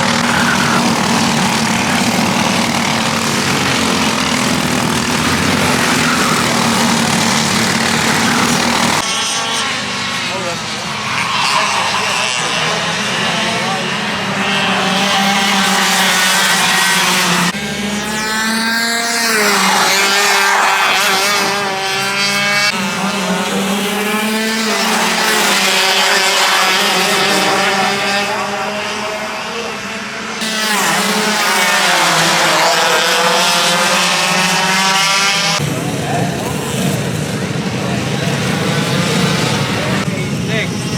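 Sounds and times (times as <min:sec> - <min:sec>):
kart engines revving: 0:00.0 - 0:40.9.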